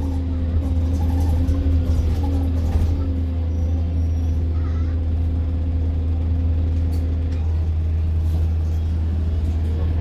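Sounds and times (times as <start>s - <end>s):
bus engine droning: 0.0s - 10.0s.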